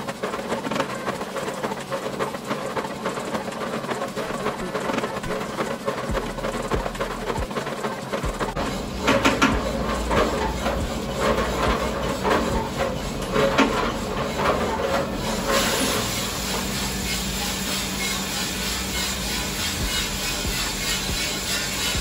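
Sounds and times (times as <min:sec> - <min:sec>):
coffee roaster running: 0:00.0 - 0:22.0.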